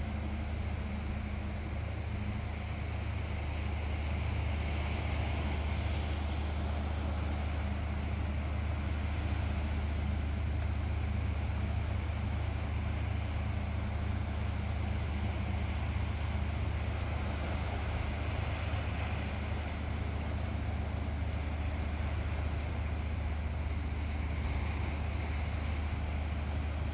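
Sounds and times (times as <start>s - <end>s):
distant city hum: 0.0s - 26.9s.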